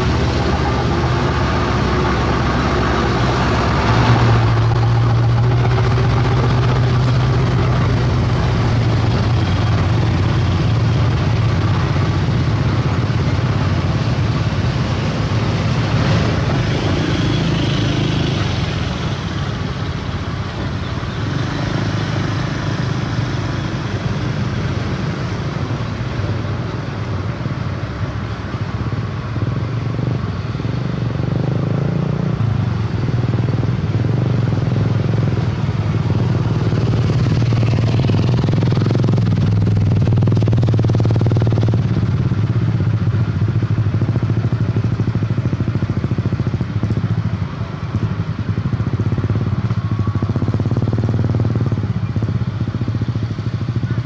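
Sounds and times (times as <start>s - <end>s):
heavy truck diesel engines droning: 0.0s - 54.0s.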